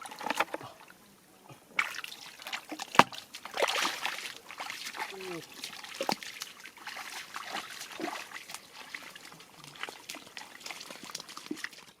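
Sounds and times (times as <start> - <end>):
water splashing and dribbling: 0.0 - 12.0.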